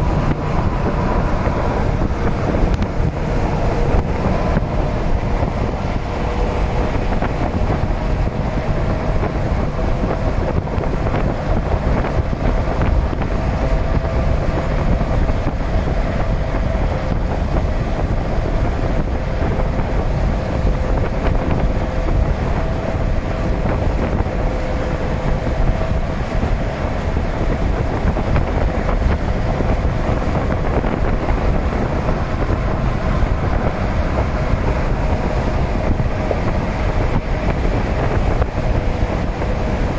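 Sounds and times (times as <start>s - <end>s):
freight train rumbling past: 0.0s - 39.9s
steady hum of tones: 0.0s - 39.9s.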